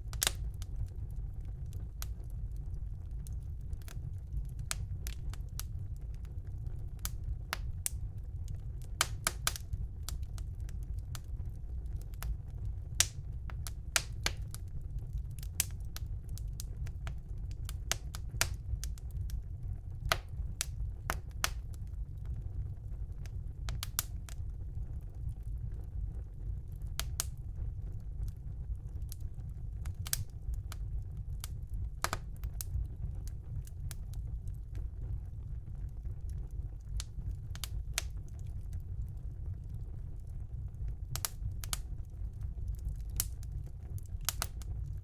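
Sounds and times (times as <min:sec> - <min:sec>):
fire low rumble: 0:00.0 - 0:45.0
wood fire crackling and popping: 0:00.0 - 0:45.0.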